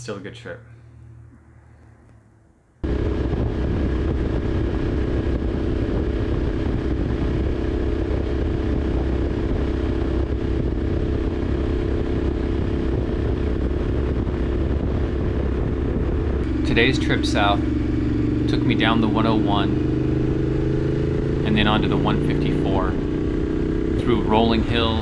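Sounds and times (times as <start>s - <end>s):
motorcycle engine cruising: 0.7s - 25.0s.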